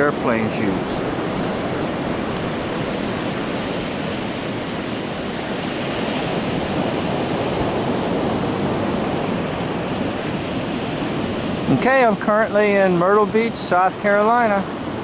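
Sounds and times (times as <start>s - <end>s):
ocean surf washing on beach: 0.0s - 15.0s
wind on microphone: 0.0s - 15.0s.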